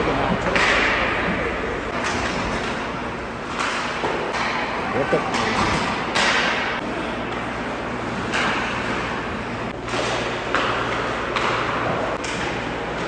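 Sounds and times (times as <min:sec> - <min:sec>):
low arena hum: 0:00.0 - 0:13.0.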